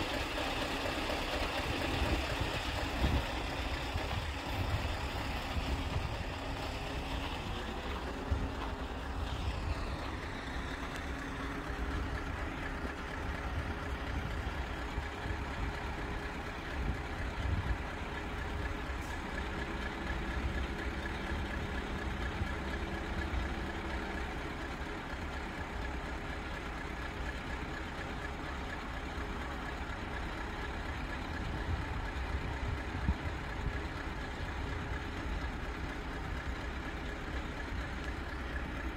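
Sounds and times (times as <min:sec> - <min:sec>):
vehicle engines idling: 0:00.0 - 0:38.9.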